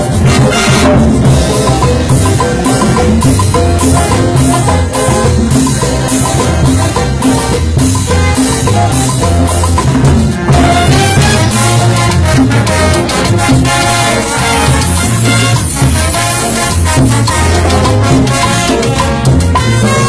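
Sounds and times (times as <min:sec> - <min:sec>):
festive band music: 0:00.0 - 0:20.0.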